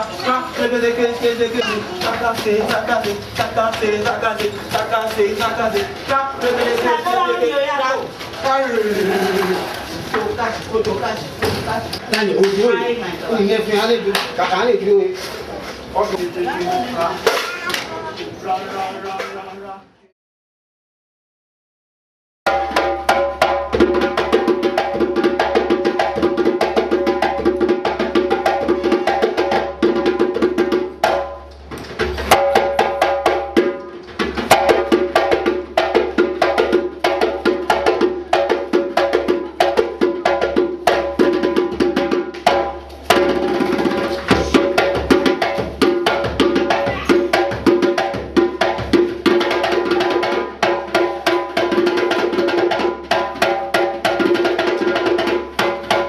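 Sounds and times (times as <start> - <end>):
fast percussion music: 0.0 - 14.9, 22.5 - 56.0.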